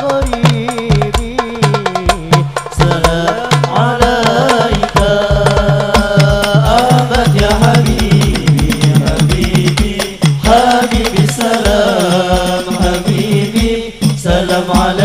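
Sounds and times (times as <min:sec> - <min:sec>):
frame drums beating: 0:00.0 - 0:15.0
person singing through loudspeakers: 0:00.0 - 0:15.0.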